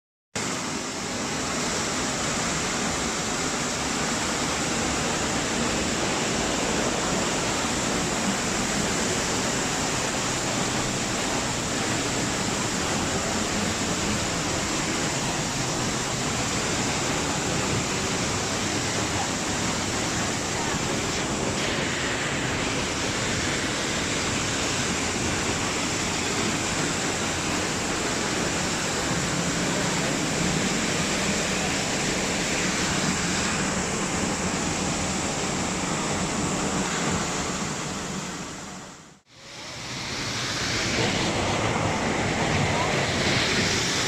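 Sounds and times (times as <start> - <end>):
waterfall rushing: 0.4 - 44.0.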